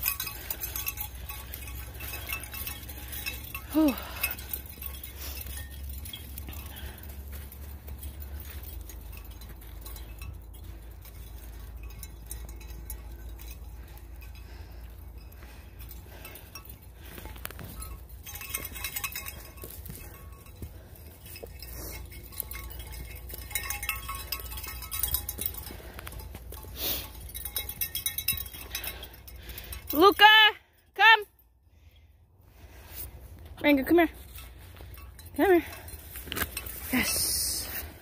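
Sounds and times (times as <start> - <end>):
metallic jingling: 0.0 - 38.0.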